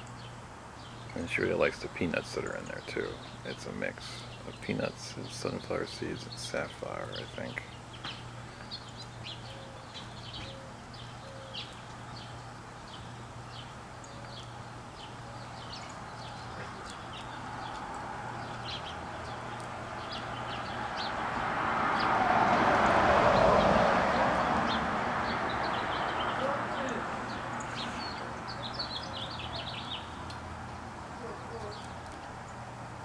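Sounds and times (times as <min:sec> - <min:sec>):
sparrows chirping: 0:00.0 - 0:33.0.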